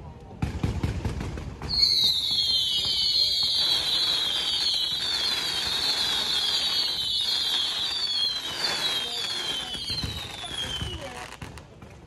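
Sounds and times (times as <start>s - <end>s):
fireworks crackle and fizz: 0.5s - 12.0s
whistling fireworks shrieking: 1.6s - 11.6s.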